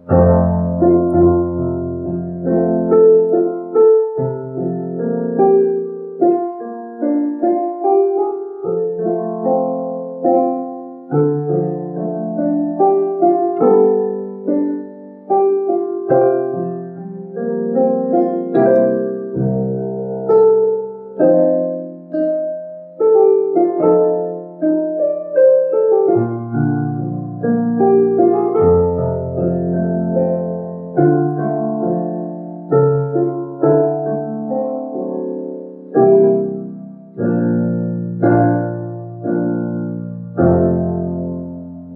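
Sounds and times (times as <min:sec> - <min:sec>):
slow hymn on solo piano: 0:00.0 - 0:41.9.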